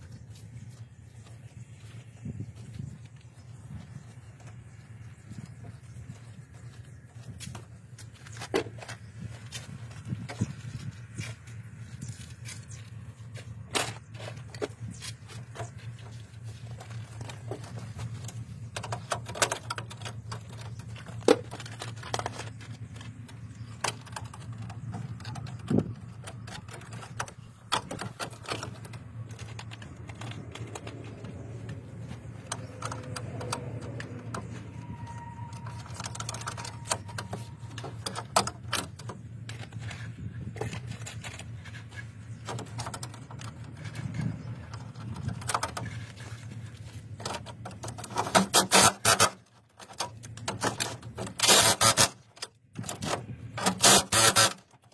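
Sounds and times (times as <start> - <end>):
metallic clicks and clatter: 2.6 - 54.9.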